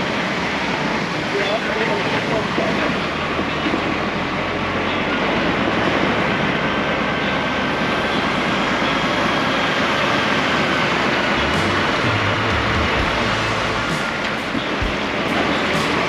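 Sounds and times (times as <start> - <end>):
truck diesel engine drone: 0.0 - 16.0.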